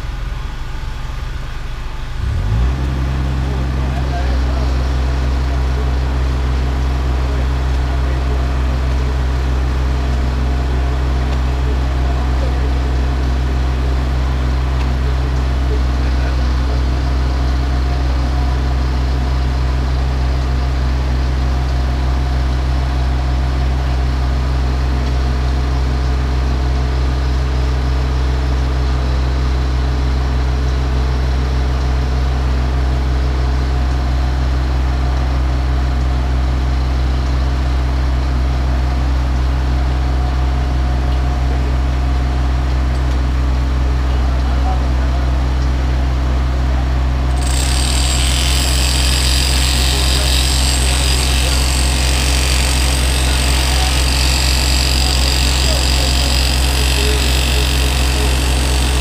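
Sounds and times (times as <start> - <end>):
diesel engine under hydraulic load: 0.0 - 44.2, 44.8 - 59.0.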